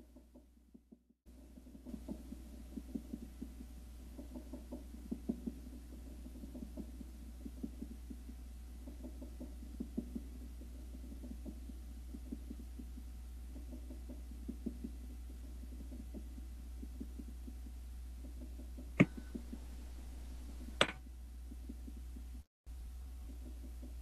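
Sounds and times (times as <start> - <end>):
steady low hum: 1.3 - 24.0.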